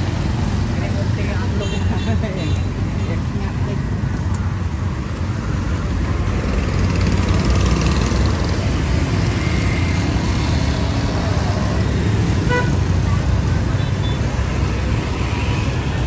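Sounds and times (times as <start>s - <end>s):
motorbikes and cars passing: 0.0s - 16.0s.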